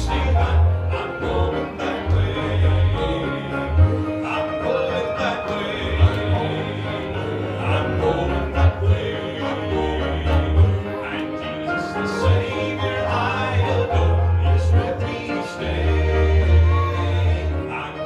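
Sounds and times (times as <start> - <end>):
southern gospel band music: 0.0 - 18.0.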